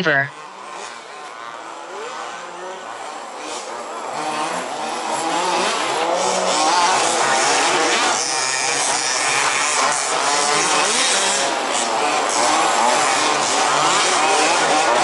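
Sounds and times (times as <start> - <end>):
rc buggy engines revving: 0.0 - 15.0.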